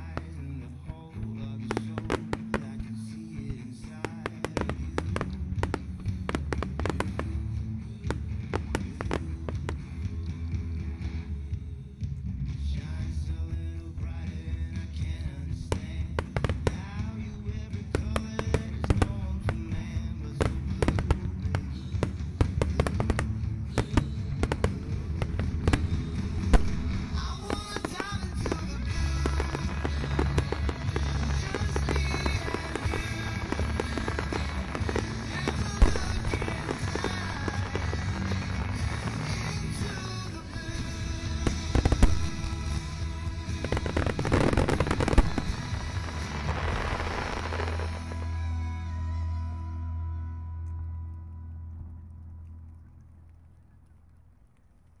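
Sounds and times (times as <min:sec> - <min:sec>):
fireworks sharp bangs: 0:00.0 - 0:10.8, 0:15.2 - 0:48.4
music playing: 0:00.0 - 0:52.5
continuous low rumble: 0:00.0 - 0:55.0.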